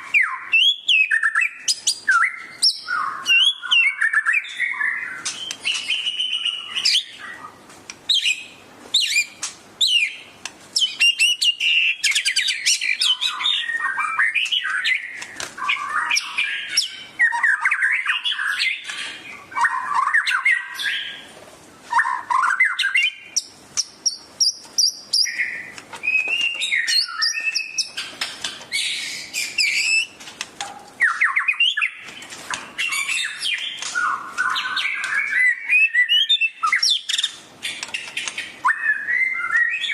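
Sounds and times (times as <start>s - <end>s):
bird singing whistles and trills: 0.0s - 21.3s, 21.9s - 28.1s, 28.7s - 30.2s, 31.0s - 32.1s, 32.7s - 39.9s.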